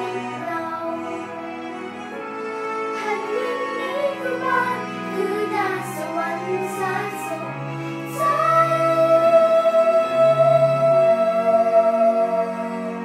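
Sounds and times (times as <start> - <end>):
girl singing with music: 0.0 - 13.0.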